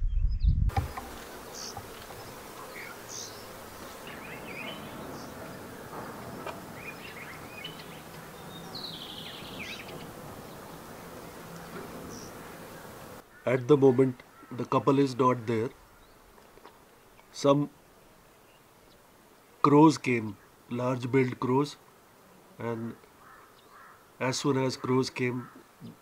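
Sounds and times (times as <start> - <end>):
insects buzzing: 0.7 - 26.0.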